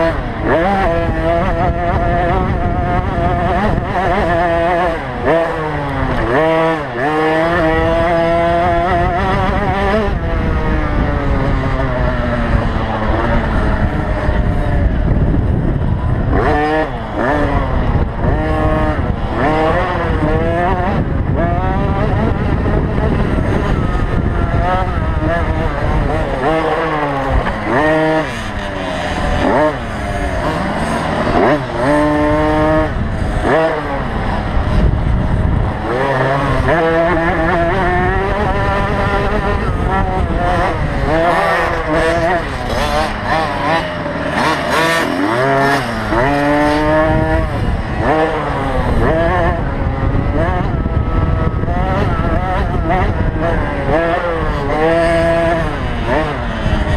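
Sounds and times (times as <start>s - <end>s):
motocross bike engines revving: 0.0s - 56.9s.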